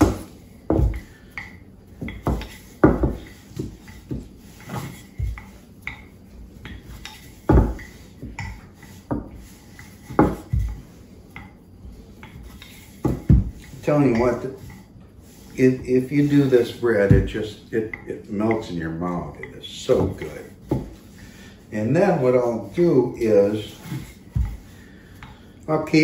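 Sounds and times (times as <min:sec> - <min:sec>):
rolling pin thudding on dough: 0:00.0 - 0:25.4.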